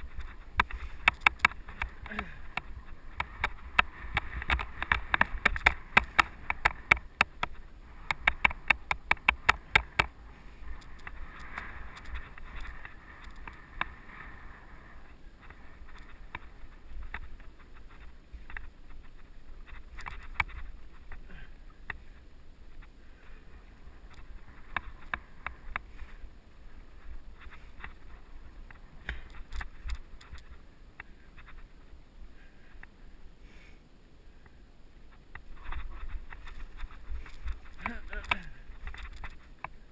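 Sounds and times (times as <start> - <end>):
bike rattling over rough trail: 0.0 - 31.9, 35.1 - 39.9.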